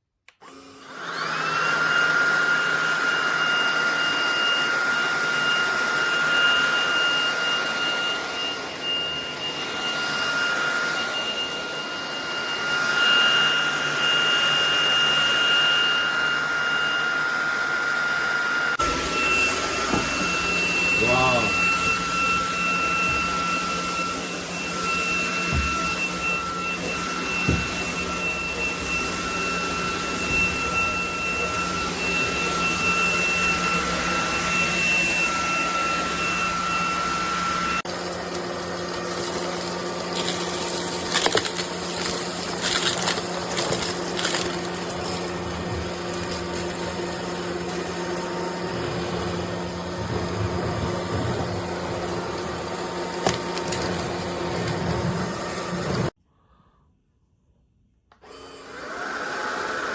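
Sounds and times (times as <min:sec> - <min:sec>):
vacuum cleaner motor whine: 0:00.3 - 0:56.2, 0:58.1 - 0:59.9.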